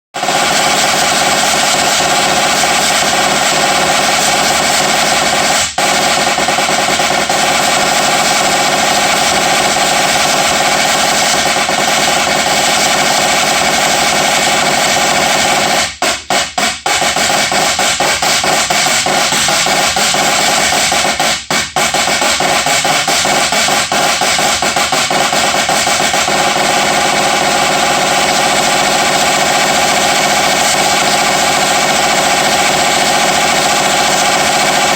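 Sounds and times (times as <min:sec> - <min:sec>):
drum solo rolls: 0:00.2 - 0:34.9.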